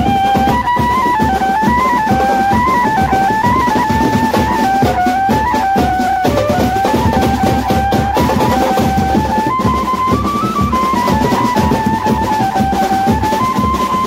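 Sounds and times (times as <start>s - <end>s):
lead melody line: 0.0s - 14.0s
side drums and bass drum: 0.0s - 14.0s
street band playing: 0.0s - 14.0s.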